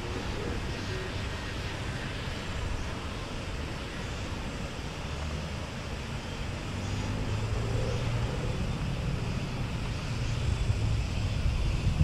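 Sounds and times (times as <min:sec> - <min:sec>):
faint engine drone: 0:00.0 - 0:12.0
wind rumble on microphone: 0:00.0 - 0:12.0.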